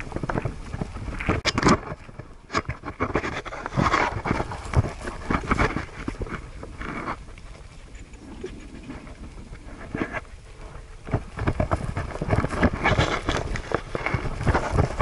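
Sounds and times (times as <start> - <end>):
camera rubbing against dog fur: 0.0 - 15.0.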